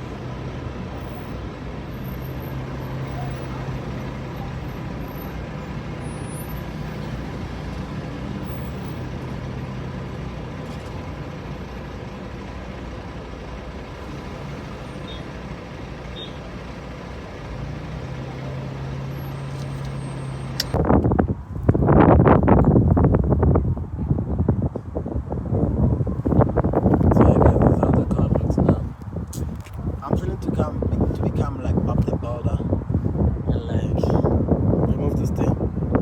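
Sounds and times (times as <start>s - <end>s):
low engine hum: 0.0s - 36.0s
road noise rushing: 0.0s - 36.0s.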